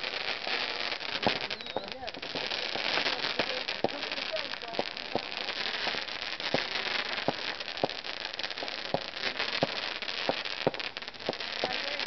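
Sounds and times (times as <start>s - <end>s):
firework shots popping: 0.0s - 12.0s
fireworks crackling and fizzing: 0.0s - 12.0s.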